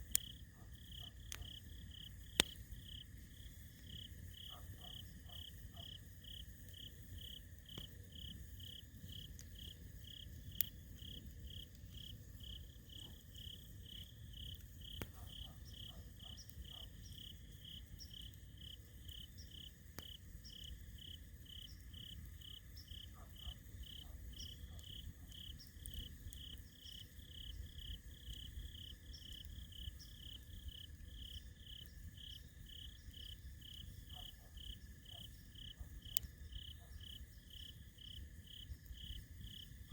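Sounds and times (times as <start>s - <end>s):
campfire crackling and popping: 0.0s - 39.9s
crickets chirping: 0.0s - 39.9s
insect trill: 0.1s - 39.9s.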